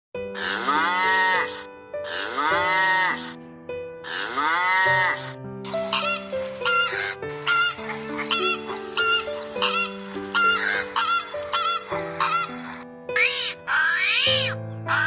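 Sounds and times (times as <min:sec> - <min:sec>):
background music with sustained notes: 0:00.2 - 0:15.0
livestock calls: 0:00.4 - 0:03.4, 0:04.1 - 0:15.0.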